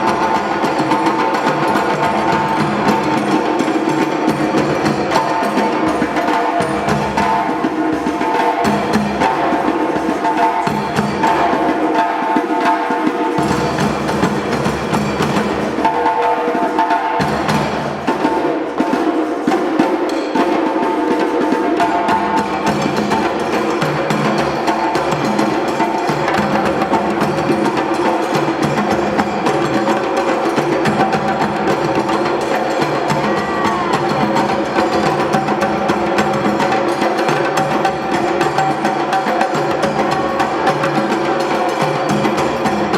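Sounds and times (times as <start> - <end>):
hand drums playing rhythm: 0.0 - 42.9.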